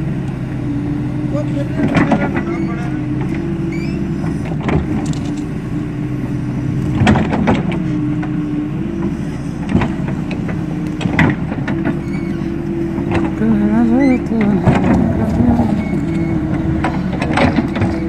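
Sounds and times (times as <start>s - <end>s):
diesel excavator engine running: 0.0s - 18.0s.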